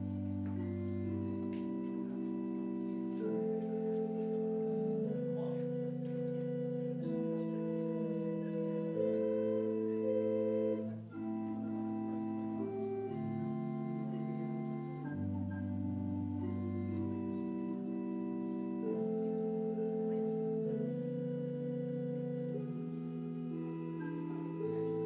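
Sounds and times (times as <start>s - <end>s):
organ playing held chords: 0.0s - 25.0s.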